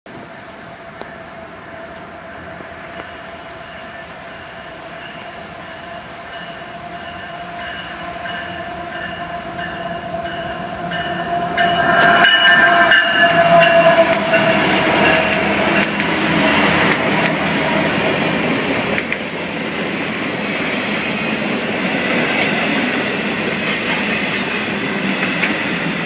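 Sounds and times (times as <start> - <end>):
freight train passing: 0.1 - 26.0.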